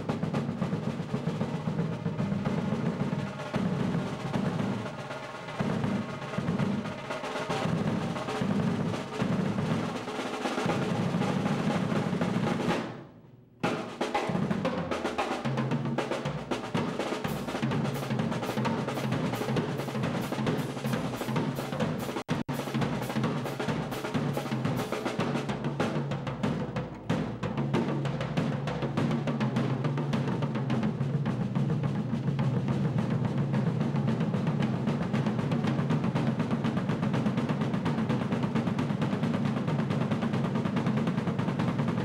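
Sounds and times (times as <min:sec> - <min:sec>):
snare and tom rolls: 0:00.0 - 0:42.0.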